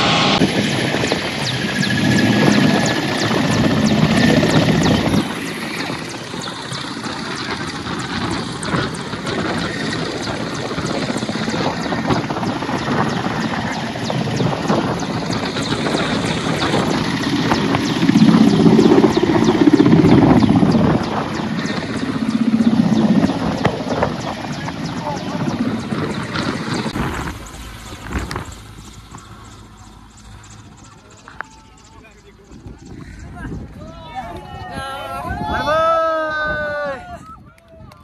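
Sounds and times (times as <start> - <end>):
helicopter rotor and engine: 0.0 - 37.5.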